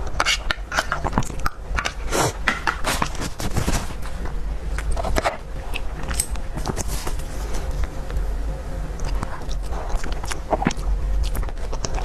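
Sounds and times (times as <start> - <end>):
person chewing crunchy food: 0.0 - 8.2, 9.0 - 12.0
steady low rumble: 0.0 - 12.0.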